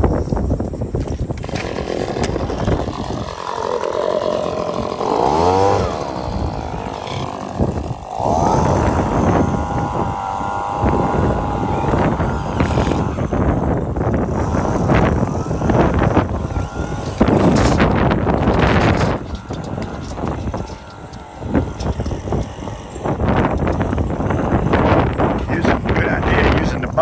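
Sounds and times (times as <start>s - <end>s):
power tool whining: 0.0s - 27.0s
wind buffeting microphone: 0.0s - 27.0s.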